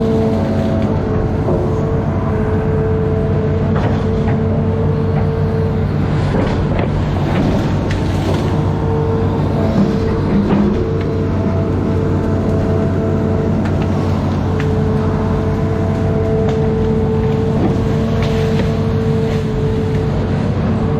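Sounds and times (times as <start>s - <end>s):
diesel engine running with whine: 0.0s - 20.9s.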